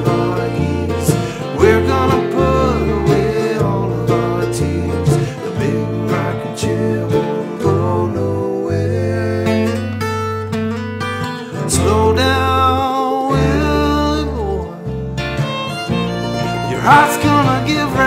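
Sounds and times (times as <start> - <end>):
men singing: 0.0 - 10.1, 11.6 - 14.9, 16.6 - 18.0
acoustic guitar strumming: 0.0 - 18.0
electric bass notes: 0.0 - 18.0
mandolin picking: 0.0 - 18.0.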